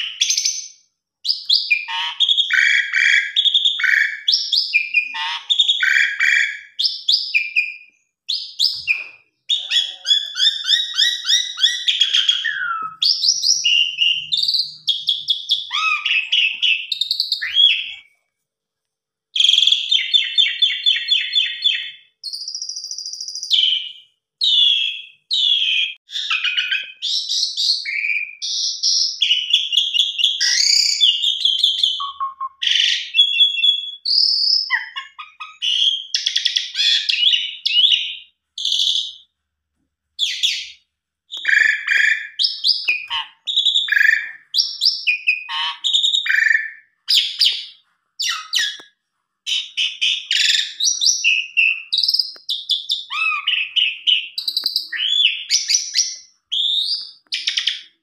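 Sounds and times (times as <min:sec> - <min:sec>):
starling singing: 0:00.0 - 0:18.1, 0:19.4 - 0:39.2, 0:40.2 - 0:48.8, 0:49.5 - 0:58.0.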